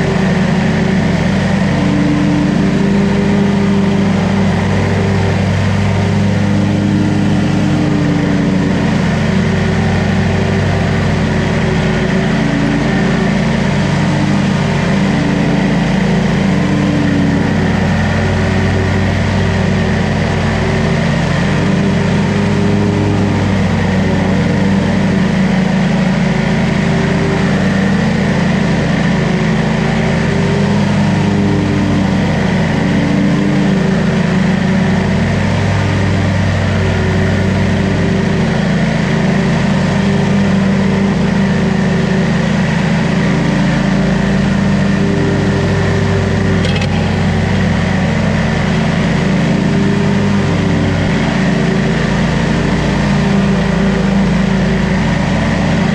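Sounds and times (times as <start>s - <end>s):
mower engine running: 0.0s - 55.9s.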